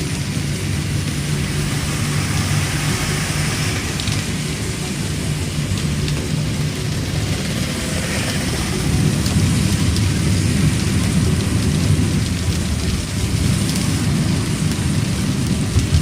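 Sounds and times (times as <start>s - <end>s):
heavy rain beating on a car: 0.0s - 16.0s
low rumble of moving car: 0.0s - 16.0s.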